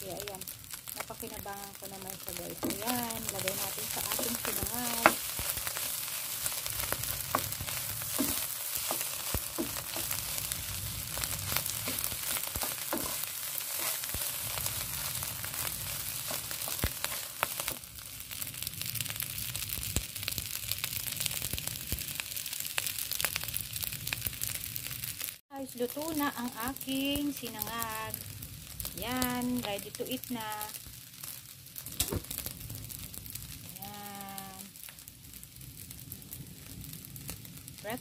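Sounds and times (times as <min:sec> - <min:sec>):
fried rice sizzling in a pan: 0:00.0 - 0:38.0.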